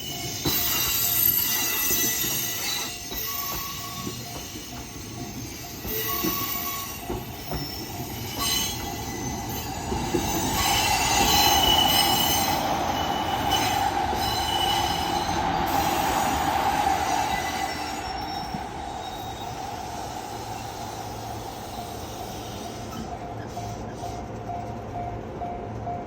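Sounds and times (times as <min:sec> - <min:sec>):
train wheels squealing: 0:00.0 - 0:25.2
train cars rumbling: 0:00.0 - 0:26.0.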